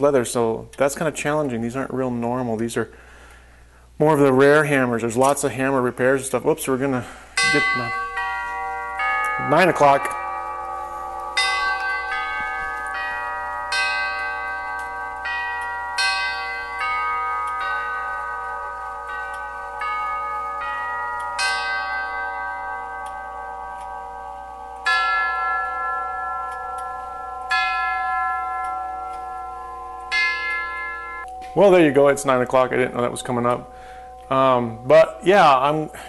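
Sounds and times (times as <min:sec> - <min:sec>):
clock hour strike: 0:04.0 - 0:36.0
tubular clock chimes: 0:04.1 - 0:36.0.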